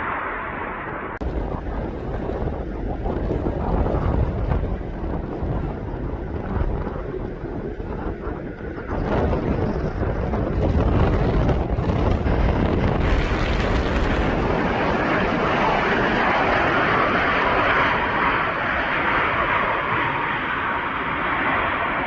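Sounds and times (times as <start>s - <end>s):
airplane engine passing: 0.0s - 9.0s, 11.5s - 22.0s
wind buffeting microphone: 0.8s - 20.1s.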